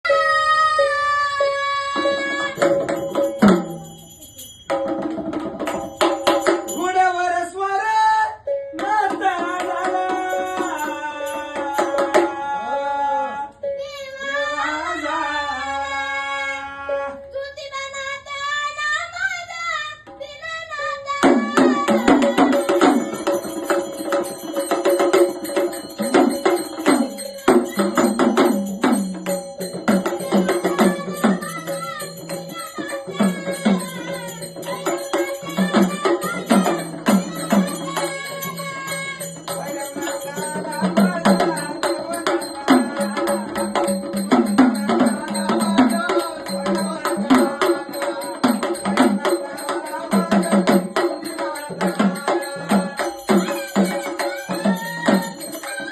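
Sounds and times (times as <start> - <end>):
child singing: 0.0 - 3.8, 8.2 - 24.2, 25.1 - 28.7, 29.7 - 55.9
drums and rattling percussion: 1.9 - 7.6, 8.8 - 12.5, 20.0 - 55.9.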